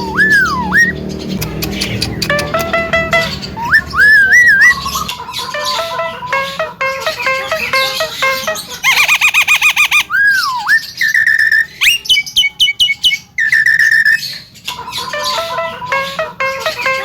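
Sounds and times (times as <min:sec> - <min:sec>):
myna singing varied whistles: 0:00.0 - 0:17.0.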